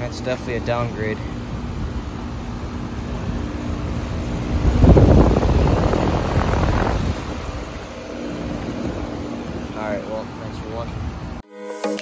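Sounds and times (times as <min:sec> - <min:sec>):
heat pump humming: 0:00.0 - 0:11.4
wind buffeting microphone: 0:00.6 - 0:11.4.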